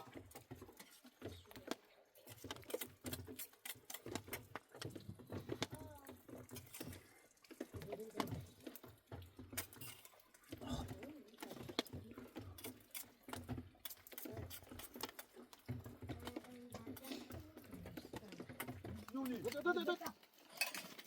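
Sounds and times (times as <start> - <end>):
faint clicks and knocks: 0.1 - 21.0.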